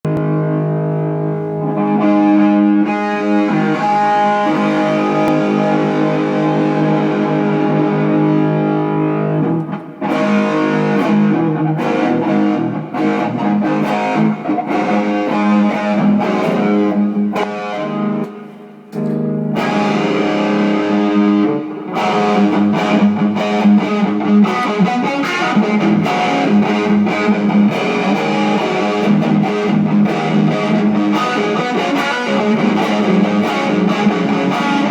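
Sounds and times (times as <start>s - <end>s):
guitar playing: 0.0s - 34.9s.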